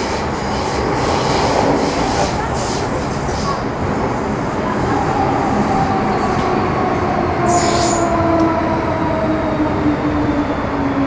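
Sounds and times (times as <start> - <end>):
rumble of train wheels: 0.0 - 11.0.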